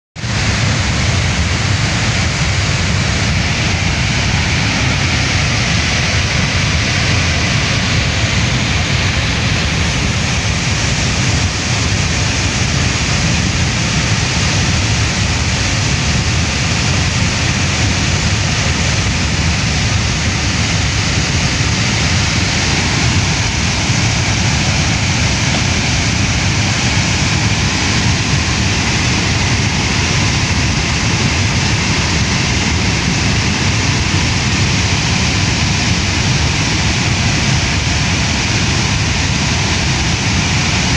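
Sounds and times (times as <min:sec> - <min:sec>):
flood water rushing: 0:00.2 - 0:40.9.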